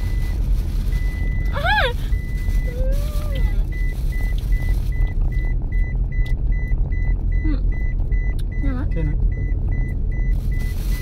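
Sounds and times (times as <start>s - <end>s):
car road and tyre rumble: 0.0s - 11.0s.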